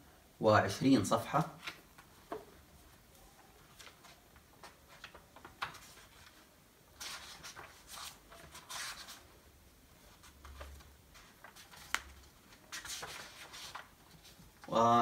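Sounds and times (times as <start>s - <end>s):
book pages rustling: 1.6s - 9.3s, 9.9s - 14.7s.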